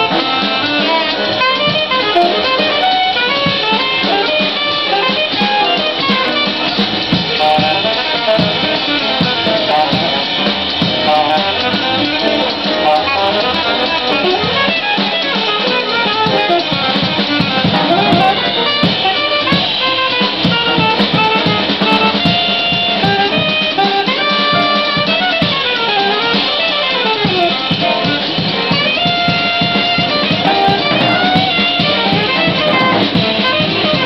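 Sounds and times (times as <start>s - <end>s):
drum kit: 0.0s - 34.0s
saxophone melody: 0.0s - 34.0s
walking upright bass: 0.0s - 34.0s.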